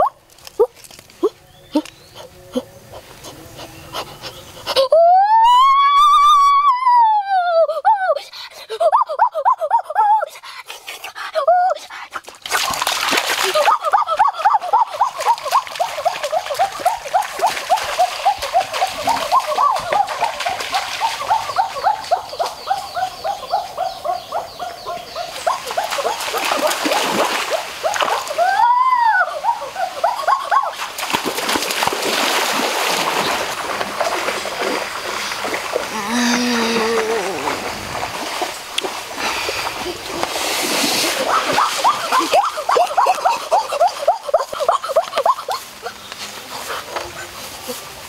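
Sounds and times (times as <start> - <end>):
person wading through muddy water: 0.0 - 4.9, 8.3 - 48.0.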